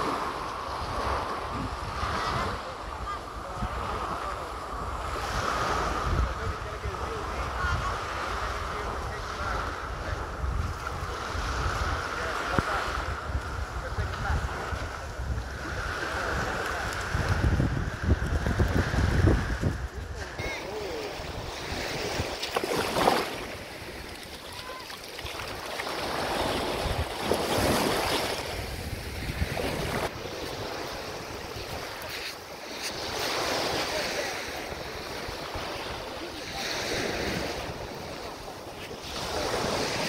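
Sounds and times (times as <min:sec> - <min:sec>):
surf washing onto beach: 0:00.0 - 0:40.0
wind buffeting microphone: 0:00.0 - 0:40.0.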